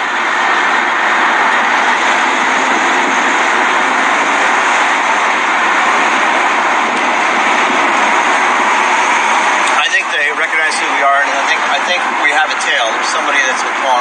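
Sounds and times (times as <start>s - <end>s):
car interior engine and road noise: 0.0s - 14.0s.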